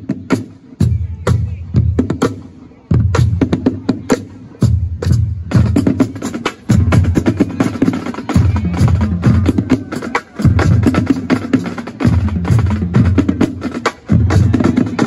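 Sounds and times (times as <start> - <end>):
lower drum pattern: 0.0 - 15.0.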